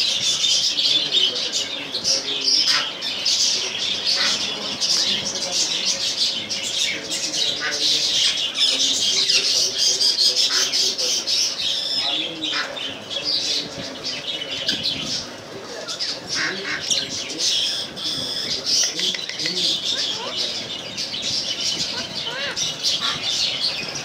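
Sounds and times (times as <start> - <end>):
caged birds squawking and chirping: 0.0 - 24.0.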